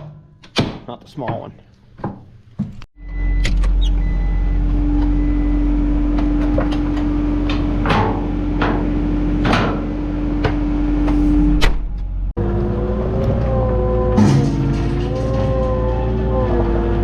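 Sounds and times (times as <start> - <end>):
loader engine humming: 3.0 - 17.0.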